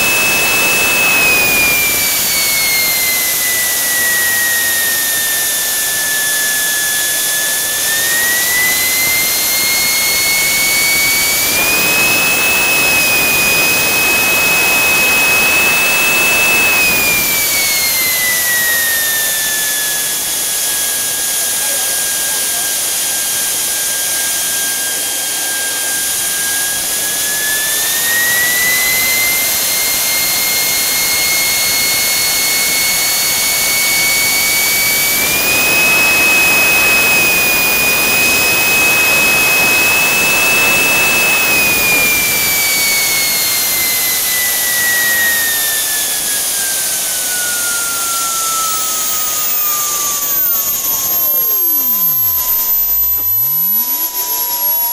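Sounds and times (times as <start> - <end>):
turbine engine whining: 0.0 - 54.9.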